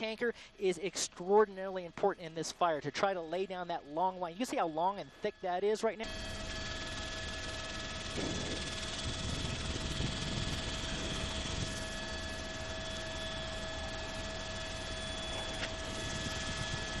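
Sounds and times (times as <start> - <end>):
helicopter engine and rotor noise: 0.0 - 17.0
high-pitched whine: 0.0 - 17.0.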